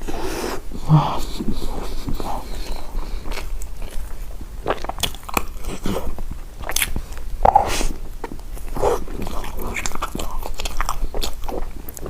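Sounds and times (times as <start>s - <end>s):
chewing crunchy food: 1.2s - 12.0s.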